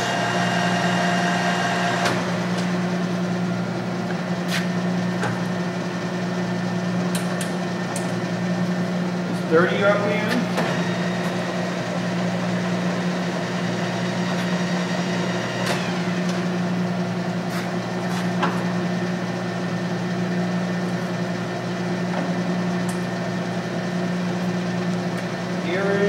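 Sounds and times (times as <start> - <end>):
lathe motor humming: 0.0 - 26.0.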